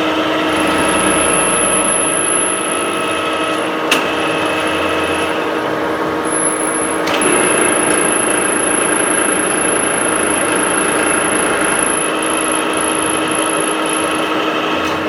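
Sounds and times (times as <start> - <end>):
milling cutter grinding: 0.3 - 5.4, 6.4 - 15.0.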